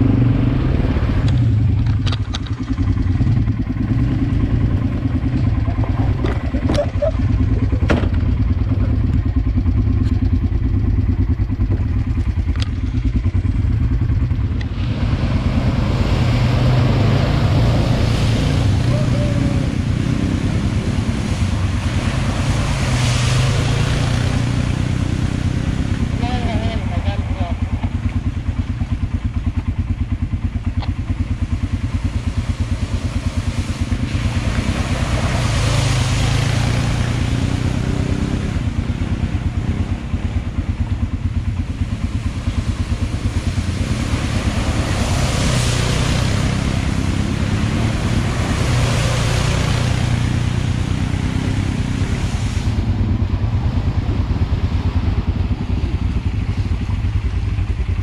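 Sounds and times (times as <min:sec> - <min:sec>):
atv engine idling: 0:00.0 - 0:58.0
splashing through muddy water: 0:00.0 - 0:58.0.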